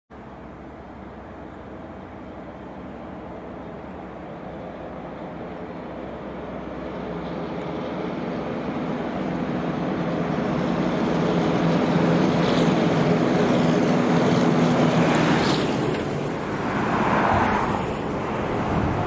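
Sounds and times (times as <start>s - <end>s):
truck engine approaching: 0.1s - 19.0s.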